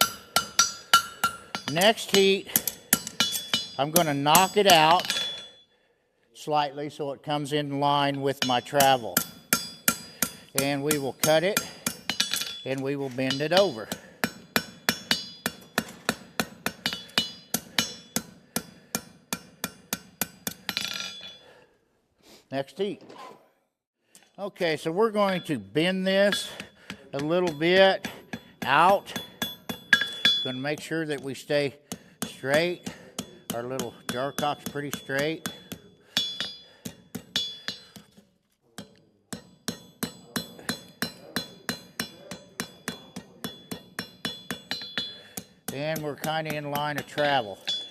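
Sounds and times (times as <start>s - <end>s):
hammer striking horseshoe on anvil: 0.0s - 5.6s, 7.8s - 21.5s, 24.6s - 47.9s.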